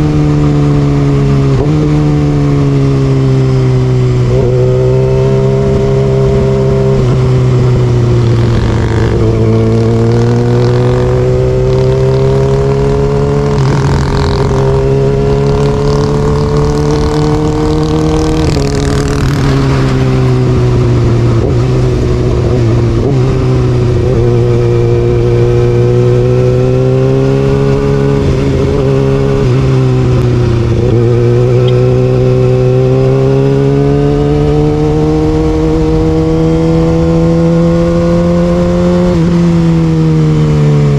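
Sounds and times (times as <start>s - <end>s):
motorcycle engine revving: 0.0s - 40.9s
wind noise: 0.0s - 40.9s.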